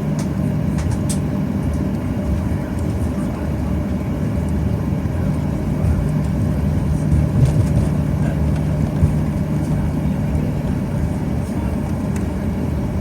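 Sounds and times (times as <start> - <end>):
jet engines idling in cabin: 0.0 - 13.0.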